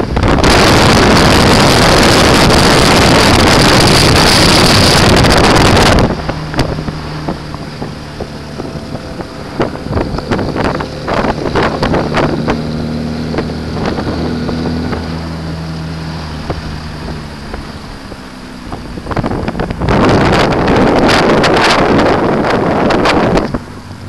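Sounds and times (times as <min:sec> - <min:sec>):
car engine running: 0:00.0 - 0:24.0
wind buffeting on microphone: 0:00.0 - 0:24.0.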